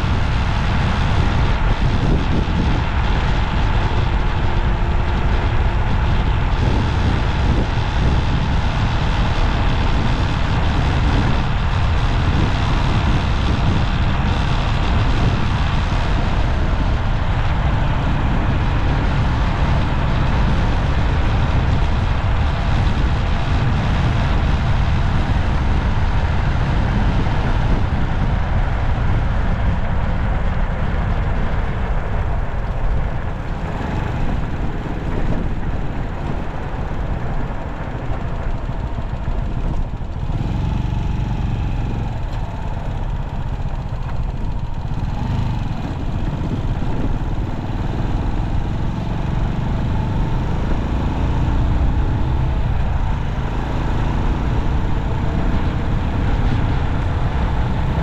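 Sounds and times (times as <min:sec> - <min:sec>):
passing traffic: 0:00.0 - 0:58.0
vehicle road noise: 0:00.0 - 0:58.0.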